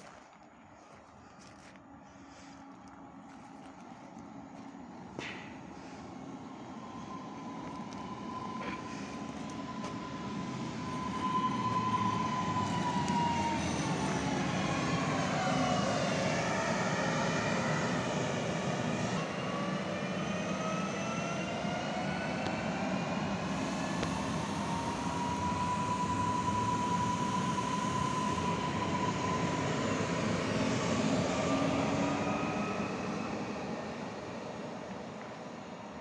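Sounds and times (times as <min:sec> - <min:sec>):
train wheels rumbling: 0:01.8 - 0:34.4
electric traction whine: 0:02.8 - 0:33.6.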